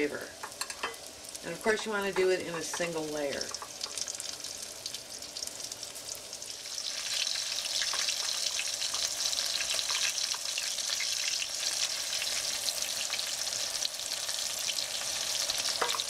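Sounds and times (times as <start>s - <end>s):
chicken sizzling in a skillet: 0.0s - 16.0s.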